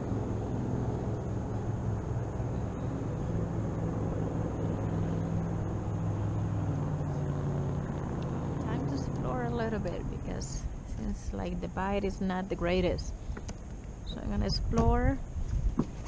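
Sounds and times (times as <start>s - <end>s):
engine humming: 0.0s - 16.0s
faint high whine: 0.0s - 16.0s.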